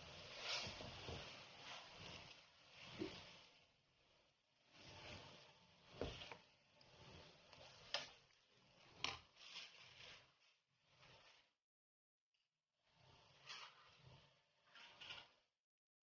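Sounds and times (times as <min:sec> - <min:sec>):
stirring rice in a pot: 0:00.0 - 0:11.6, 0:12.8 - 0:15.5.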